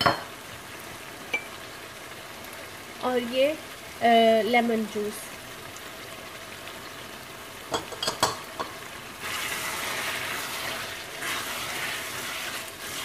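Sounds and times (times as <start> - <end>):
food sizzling in a metal pan: 0.0 - 13.0.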